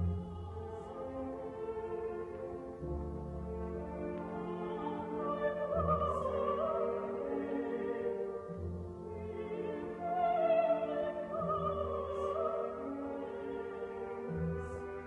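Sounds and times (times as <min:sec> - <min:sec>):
operatic orchestral music: 0:00.0 - 0:15.0.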